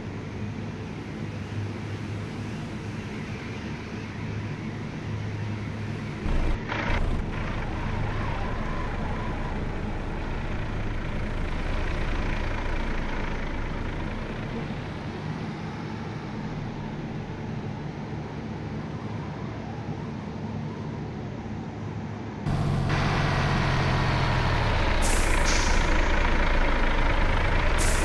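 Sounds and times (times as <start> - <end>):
truck engine drone: 0.0 - 28.0.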